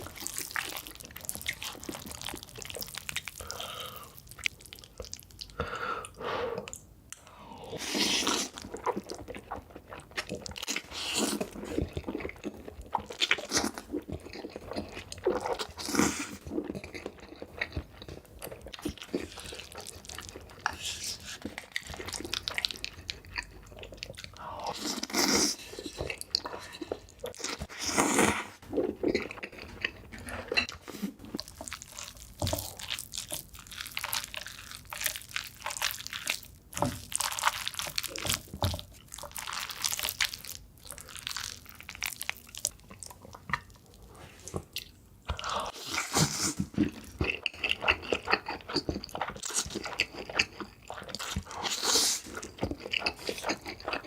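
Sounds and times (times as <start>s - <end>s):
person chewing crunchy food: 0.0s - 6.8s, 7.6s - 54.0s.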